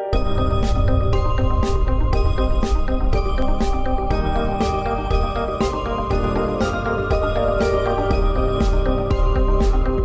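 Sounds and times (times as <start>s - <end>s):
music with held notes and beat: 0.0s - 10.0s.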